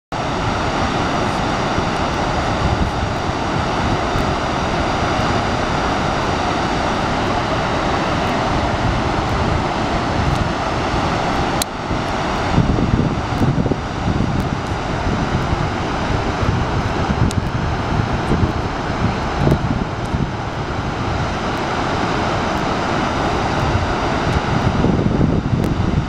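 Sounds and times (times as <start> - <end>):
waterfall rushing: 0.1 - 26.0.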